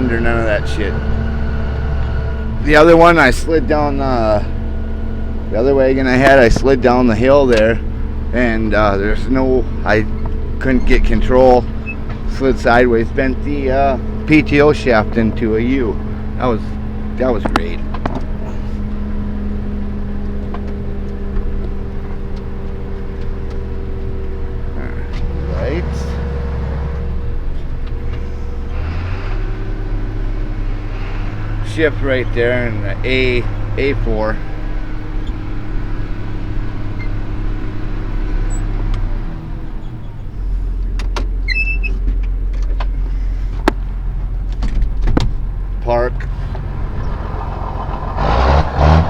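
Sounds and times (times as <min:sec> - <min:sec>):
tractor engine droning: 0:00.0 - 0:49.0.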